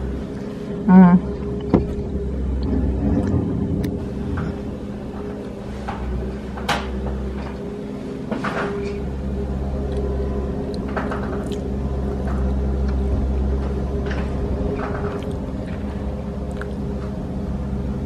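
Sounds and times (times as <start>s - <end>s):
loader engine running: 0.0s - 18.0s.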